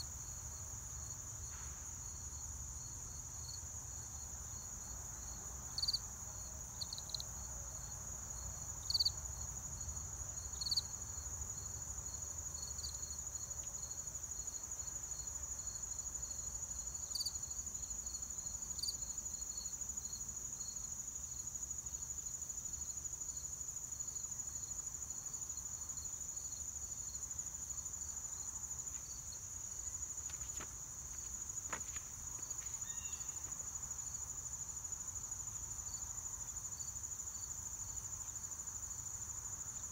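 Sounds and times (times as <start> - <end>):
insects trilling: 2.1 - 39.9.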